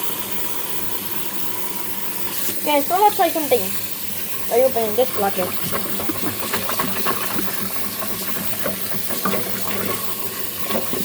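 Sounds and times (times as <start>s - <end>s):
water bubbling in sink drain: 2.2s - 11.0s.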